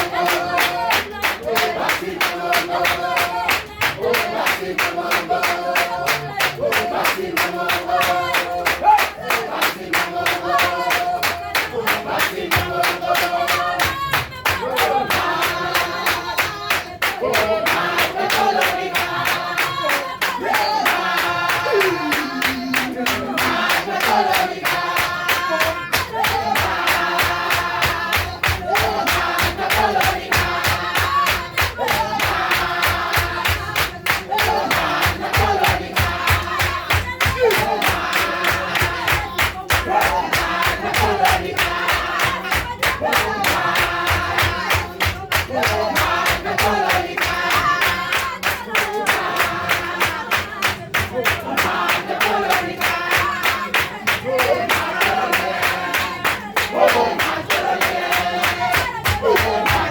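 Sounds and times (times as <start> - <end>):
upbeat gospel music: 0.0 - 59.9.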